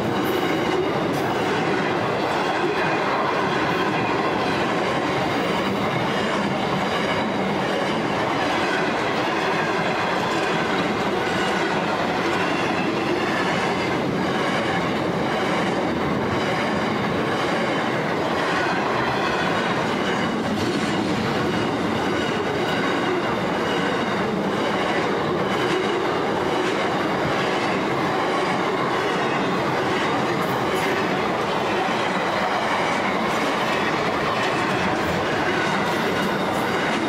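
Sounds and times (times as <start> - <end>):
steel wheels on rail: 0.0 - 37.0.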